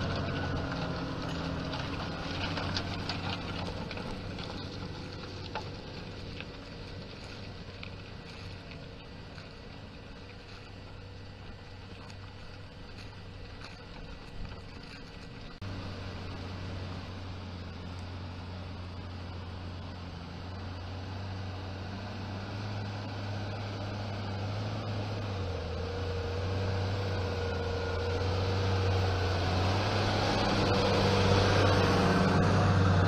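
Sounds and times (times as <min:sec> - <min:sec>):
tractor diesel engine humming: 0:00.0 - 0:33.0.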